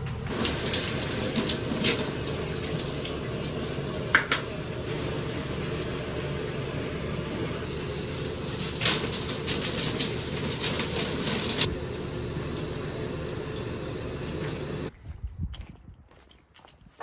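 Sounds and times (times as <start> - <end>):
running water rushing: 0.0 - 14.9
water spattering: 0.2 - 14.9.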